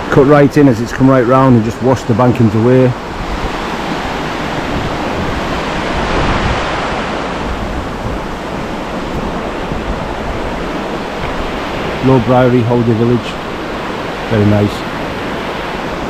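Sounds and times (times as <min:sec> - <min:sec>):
fast-flowing river rushing: 0:00.0 - 0:16.0
wind buffeting microphone: 0:00.0 - 0:16.0.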